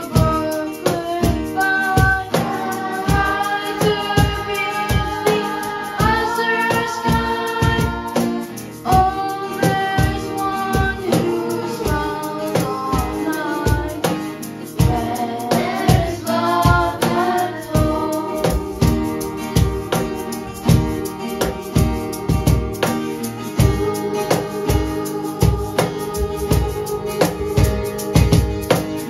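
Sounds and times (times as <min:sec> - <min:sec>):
acoustic guitar strumming: 0:00.0 - 0:29.0
children singing: 0:00.0 - 0:29.0.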